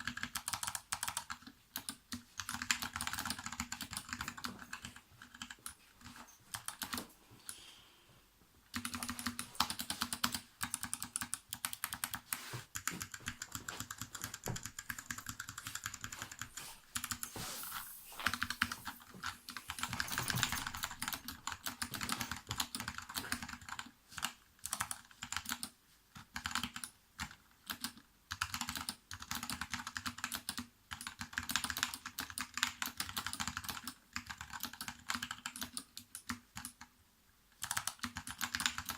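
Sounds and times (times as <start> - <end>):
mechanical keyboard typing: 0.0 - 7.0, 8.7 - 17.2, 19.6 - 36.9, 37.6 - 38.9.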